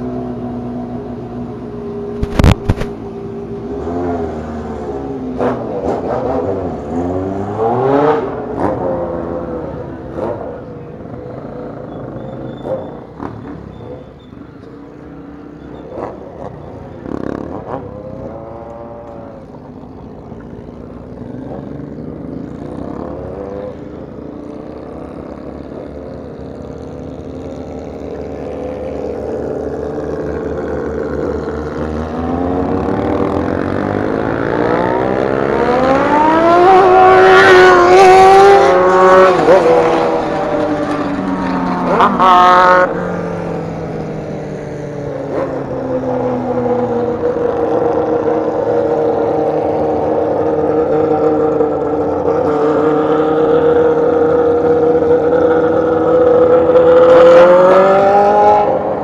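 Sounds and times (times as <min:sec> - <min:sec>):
motorcycle accelerating: 0:00.0 - 0:59.0
motorcycle engine revving: 0:02.1 - 0:14.1, 0:15.6 - 0:59.0.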